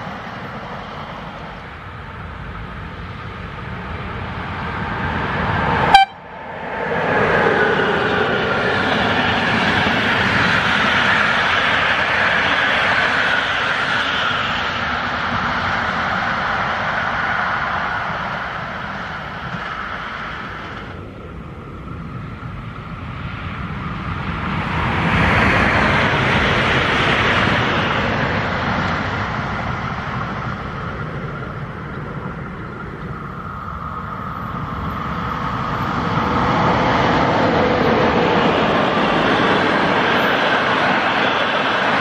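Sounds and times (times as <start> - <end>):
locomotive train approaching: 0.0 - 42.0
passenger train passing: 0.0 - 42.0
rushing noise: 0.0 - 42.0.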